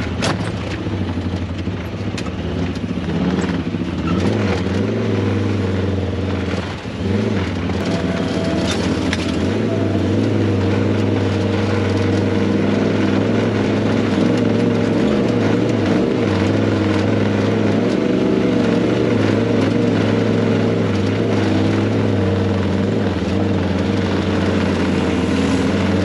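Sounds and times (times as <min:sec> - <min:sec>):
utility vehicle engine running: 0:00.0 - 0:26.0.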